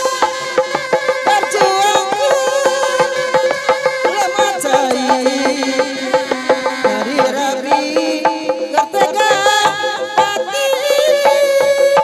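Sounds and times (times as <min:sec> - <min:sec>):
fast drumming: 0:00.0 - 0:12.0.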